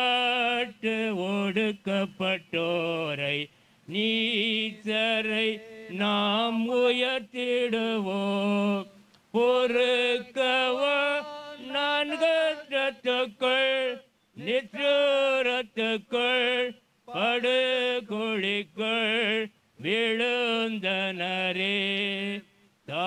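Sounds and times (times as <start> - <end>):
voices singing slow song: 0.0 - 23.0.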